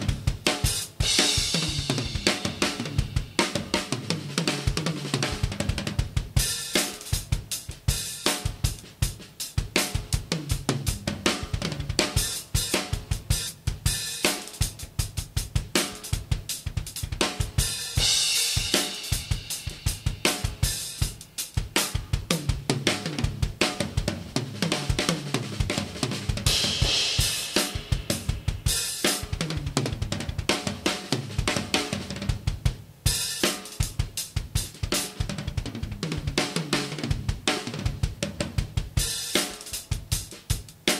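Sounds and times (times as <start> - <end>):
drum kit groove: 0.0 - 40.9.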